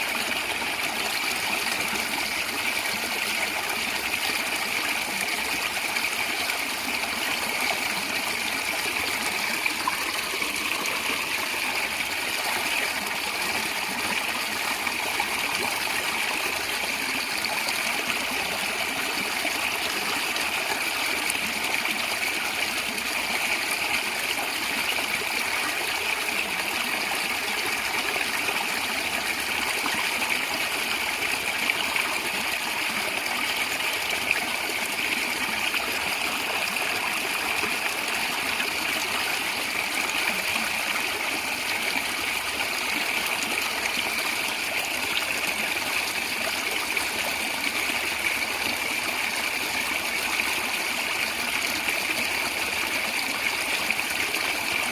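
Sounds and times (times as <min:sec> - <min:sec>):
stream water gurgling: 0:00.0 - 0:54.9.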